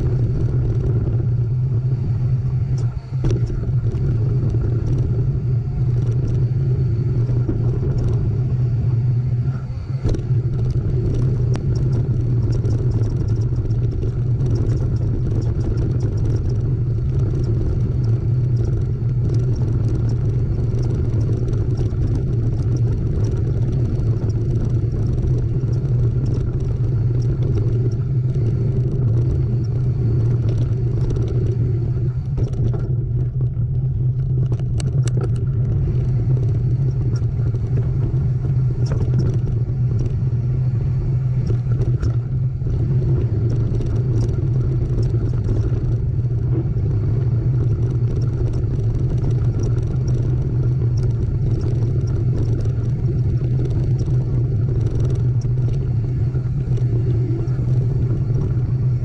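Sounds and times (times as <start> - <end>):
bike rattling: 0.0 - 59.0
wind on microphone: 0.0 - 59.0.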